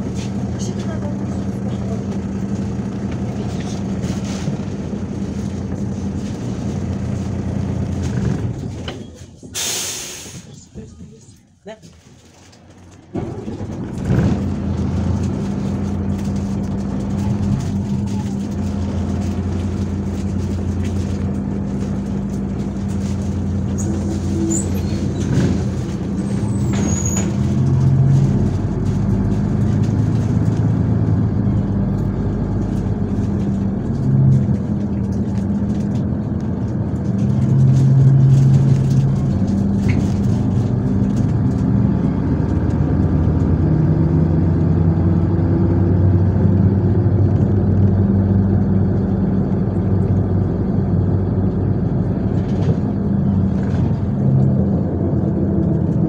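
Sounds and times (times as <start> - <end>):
bus diesel engine hum: 0.0 - 56.0
road noise: 0.0 - 56.0.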